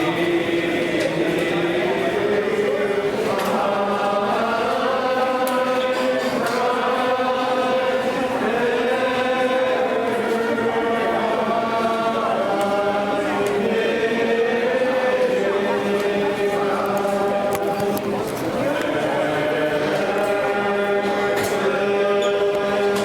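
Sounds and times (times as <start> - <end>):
slow chant-like music: 0.0 - 23.0.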